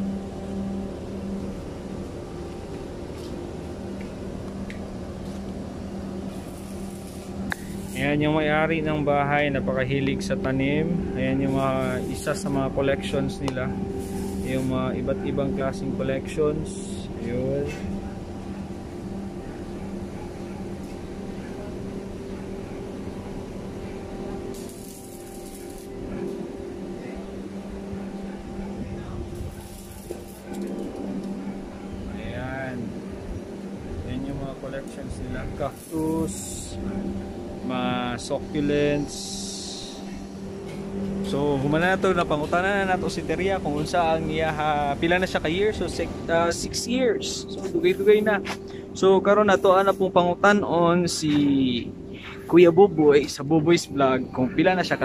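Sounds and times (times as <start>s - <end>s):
low mechanical hum: 0.0s - 55.0s
pitched drone: 0.0s - 55.0s.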